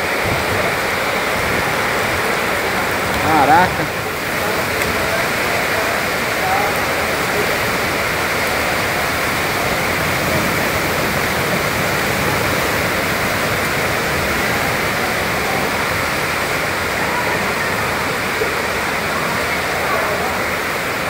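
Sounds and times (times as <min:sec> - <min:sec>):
heavy rain: 0:00.0 - 0:21.0
strong storm wind: 0:00.0 - 0:21.0.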